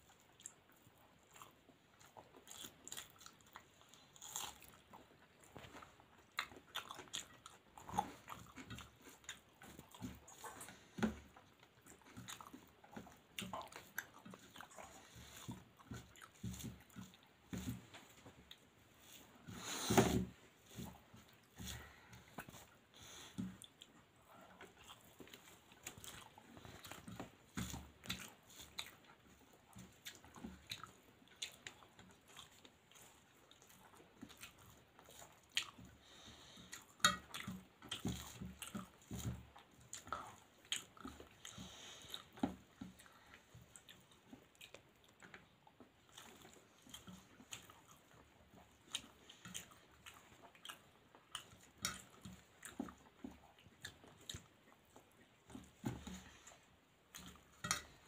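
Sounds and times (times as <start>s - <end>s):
mouth chewing smacks and clicks: 0.0s - 19.6s, 20.7s - 58.0s.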